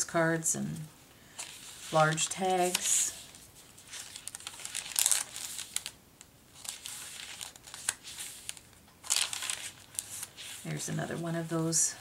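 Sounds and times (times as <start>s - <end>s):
paper and card rustling: 1.3s - 12.0s.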